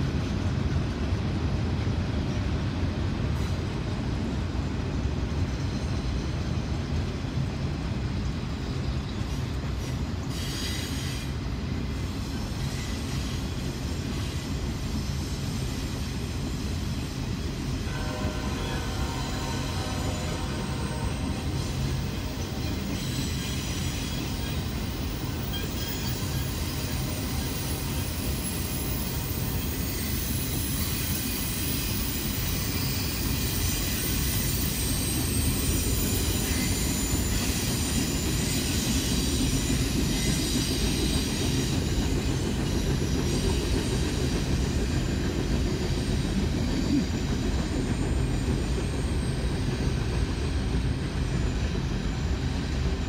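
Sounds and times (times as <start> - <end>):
train wheels rumbling on rails: 0.0 - 53.0
high wheel squeal: 8.6 - 53.0.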